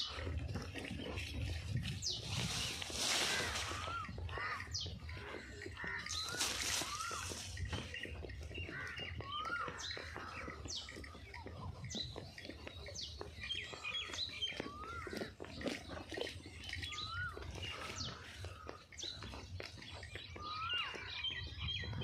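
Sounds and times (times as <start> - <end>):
birds chirping and whistling: 0.0 - 22.0.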